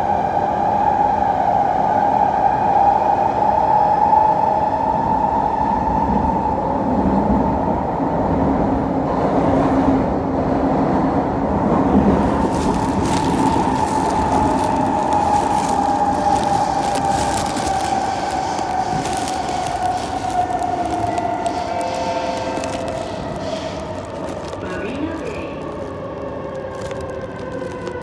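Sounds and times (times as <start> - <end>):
train drive whine: 0.0 - 28.0
train wheels rumbling on rails: 0.0 - 28.0.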